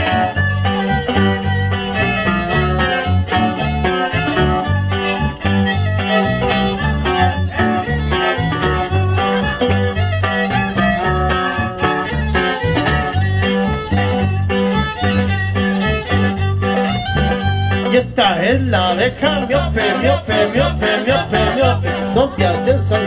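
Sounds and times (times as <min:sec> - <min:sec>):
guitar: 0:00.0 - 0:23.0
steady bass beat: 0:00.0 - 0:23.0
violin: 0:00.0 - 0:23.0.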